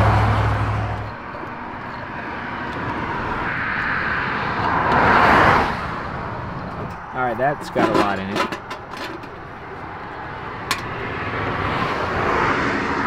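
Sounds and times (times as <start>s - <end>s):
vehicle passing on highway: 0.0s - 13.0s.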